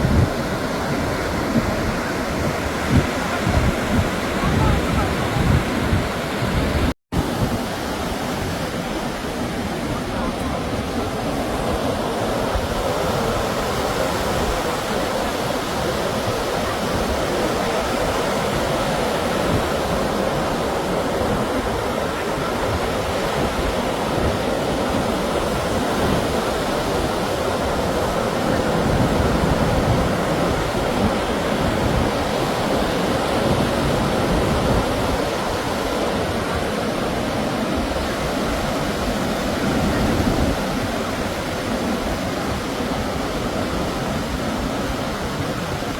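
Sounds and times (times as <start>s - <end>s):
sea surf breaking on shore: 0.0s - 45.9s.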